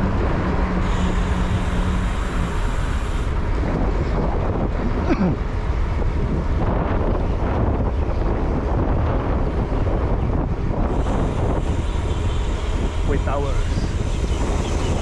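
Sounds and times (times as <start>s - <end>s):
motorcycle engine and road noise: 0.0s - 15.0s
steady low hum: 0.0s - 15.0s
wind rushing over microphone: 0.0s - 15.0s.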